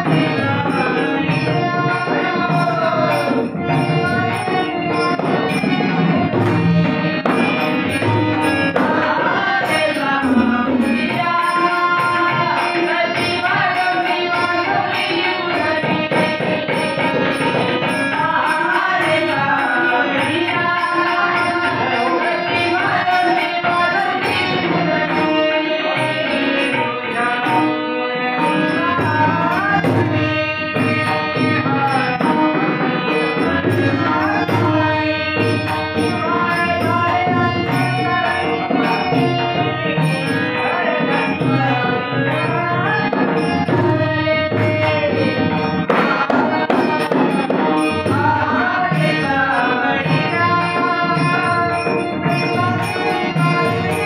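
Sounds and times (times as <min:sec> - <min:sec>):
hand drums playing rhythm: 0:00.0 - 0:54.0
harmonium: 0:00.0 - 0:54.0
men singing: 0:00.0 - 0:54.0.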